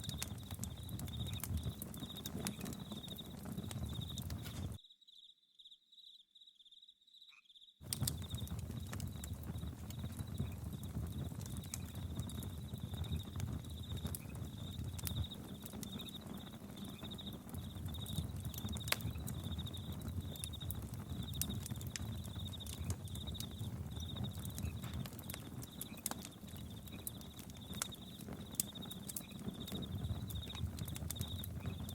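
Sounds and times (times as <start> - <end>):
campfire crackling and popping: 0.0 - 4.8, 7.8 - 31.9
crickets chirping: 0.0 - 31.9.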